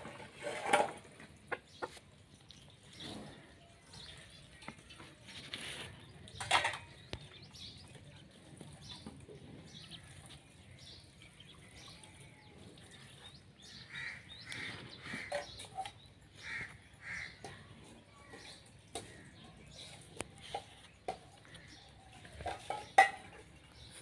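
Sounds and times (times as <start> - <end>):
chickens clucking: 0.0 - 10.4, 12.6 - 24.0.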